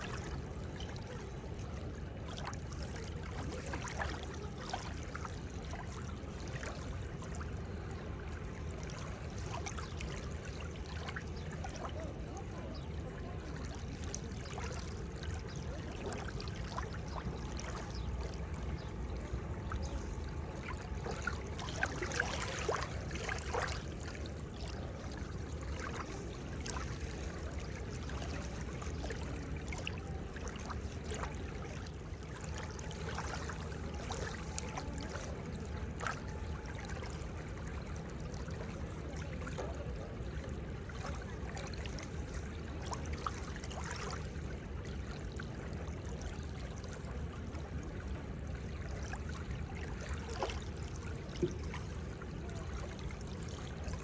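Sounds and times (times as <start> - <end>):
water lapping at shoreline: 0.0 - 54.0.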